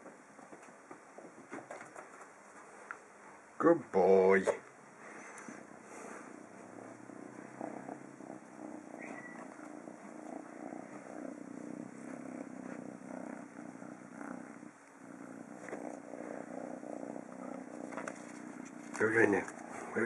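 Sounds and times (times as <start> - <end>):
kitten purring: 3.8 - 20.0.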